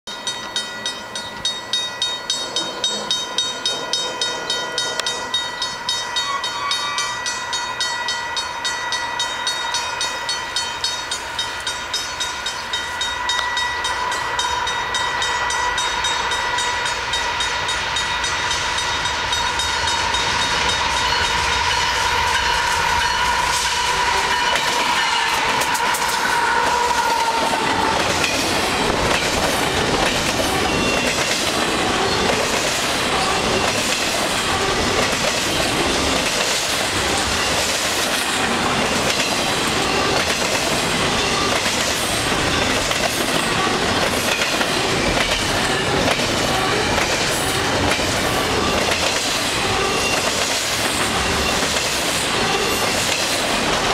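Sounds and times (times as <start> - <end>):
wheels on rails: 0.1 - 53.9
diesel locomotive engine rumble: 10.2 - 53.9.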